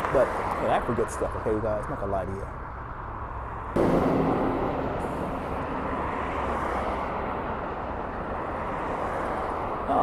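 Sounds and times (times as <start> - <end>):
vehicle rushing rumble: 0.0 - 10.0.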